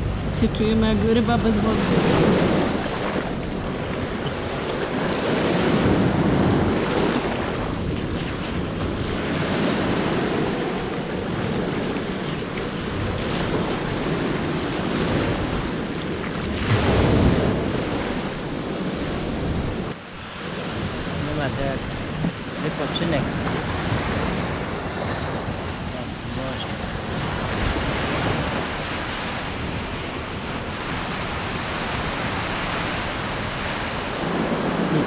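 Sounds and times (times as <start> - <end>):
wind buffeting microphone: 0.0 - 35.0
waves washing over pebbles: 1.0 - 21.8, 22.4 - 35.0.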